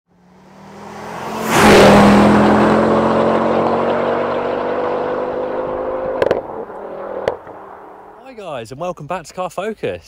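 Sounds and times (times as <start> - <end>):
car engine rushing: 0.1 - 8.2.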